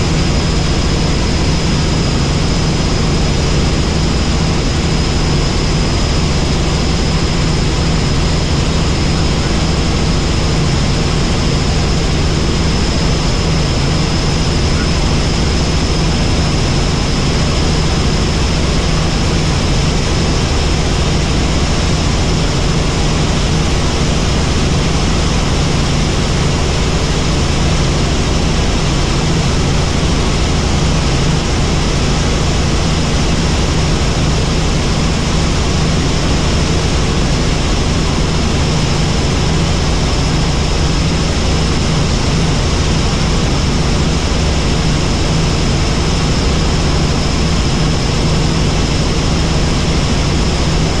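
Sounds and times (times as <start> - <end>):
helicopter rotor and engine: 0.0 - 51.0.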